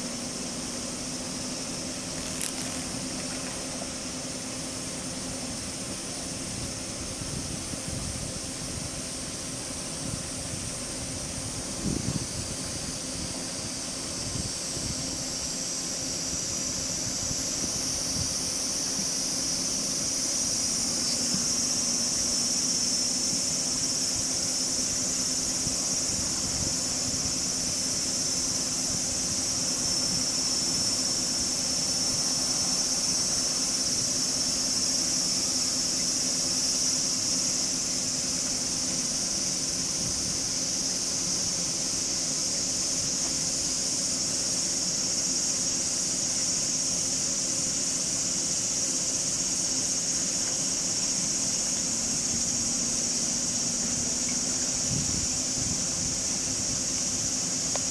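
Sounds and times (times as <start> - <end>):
insects shrilling: 0.0 - 57.9.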